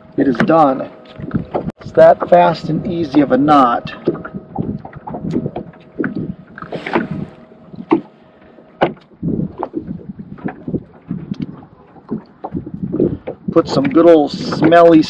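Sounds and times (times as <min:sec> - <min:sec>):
light wind: 0:00.0 - 0:15.0.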